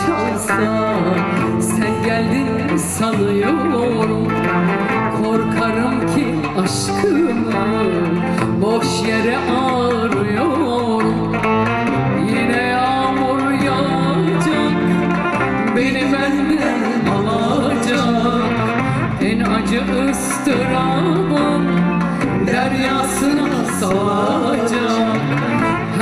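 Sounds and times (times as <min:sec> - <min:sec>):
guitar and violin backing: 0:00.0 - 0:26.0
woman singing into microphone: 0:00.0 - 0:26.0.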